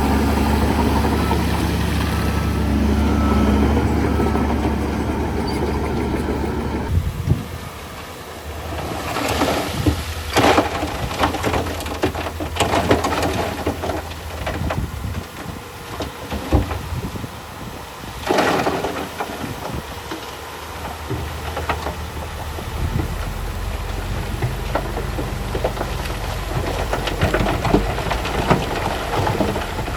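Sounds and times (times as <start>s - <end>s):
heavy machine engine running: 0.0s - 29.9s.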